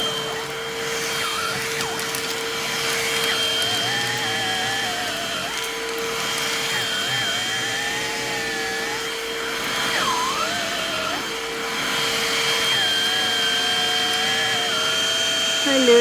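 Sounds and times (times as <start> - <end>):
hand vacuum motor whine: 0.0 - 16.0.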